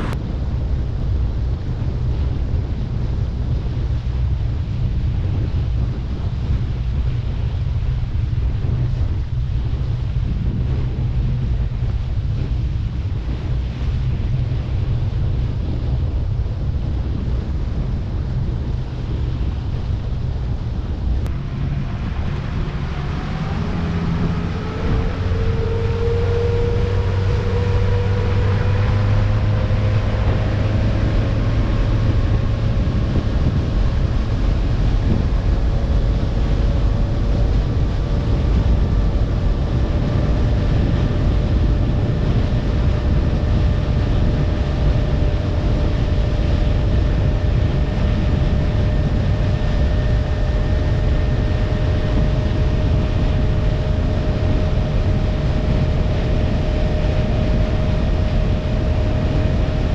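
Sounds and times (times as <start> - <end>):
heavy low rumble: 0.0 - 59.9
boat motor running: 1.5 - 59.9.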